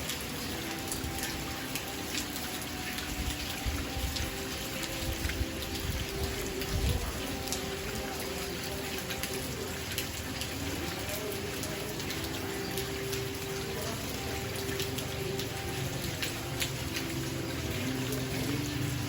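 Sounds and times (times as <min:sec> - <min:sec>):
rain falling: 0:00.0 - 0:19.0
raindrops ticking on a surface: 0:00.0 - 0:19.0.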